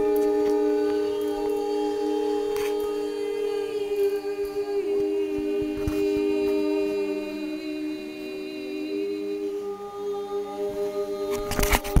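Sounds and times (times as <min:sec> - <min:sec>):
group singing long tones: 0:00.0 - 0:12.0.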